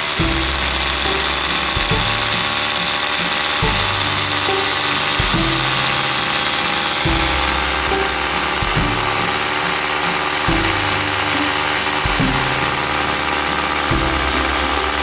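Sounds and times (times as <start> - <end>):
background music with bass: 0.0 - 15.0
hammer drill motor running: 0.0 - 15.0.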